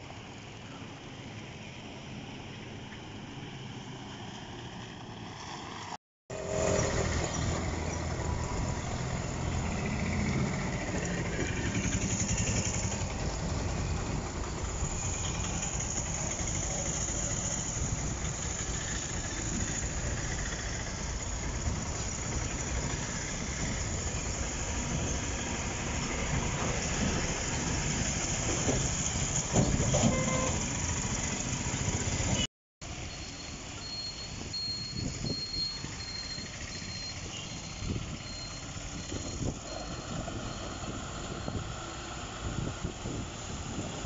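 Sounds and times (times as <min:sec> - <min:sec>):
road traffic rumbling: 0:00.0 - 0:44.0.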